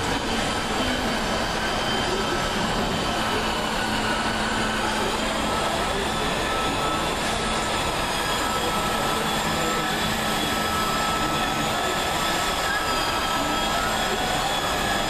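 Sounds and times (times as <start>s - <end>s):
steady background roar: 0.0s - 15.0s
thin high whine: 0.0s - 15.0s.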